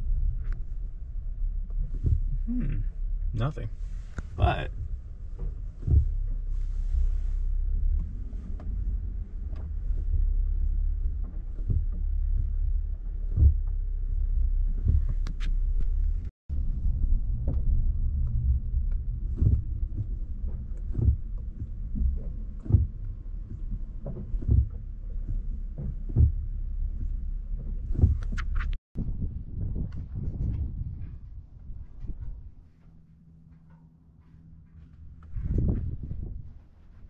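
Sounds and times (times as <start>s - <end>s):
dull low thumps: 0.0s - 37.0s
truck rumble: 0.0s - 37.0s.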